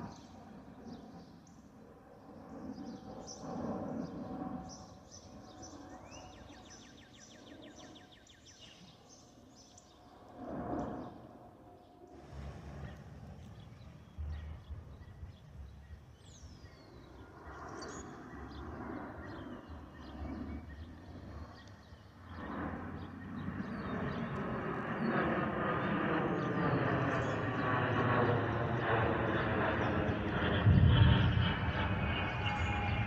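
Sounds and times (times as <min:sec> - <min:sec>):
jet airliner engines: 0:00.0 - 0:33.0.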